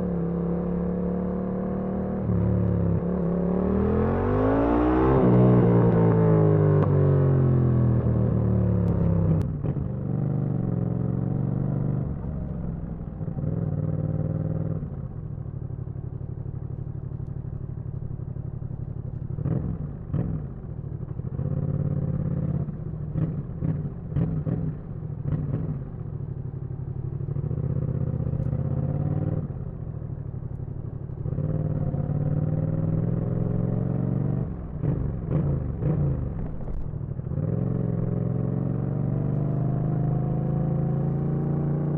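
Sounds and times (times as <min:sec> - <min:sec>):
motorcycle engine revving: 0:00.0 - 0:15.1, 0:18.8 - 0:41.9.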